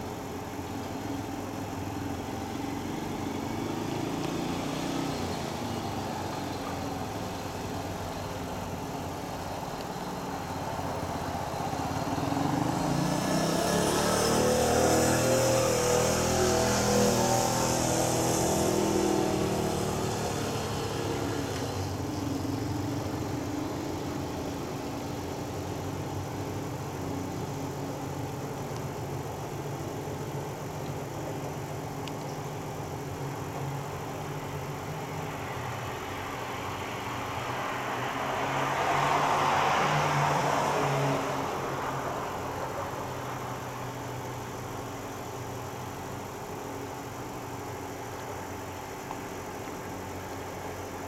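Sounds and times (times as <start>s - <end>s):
engine noise: 0.0s - 51.0s.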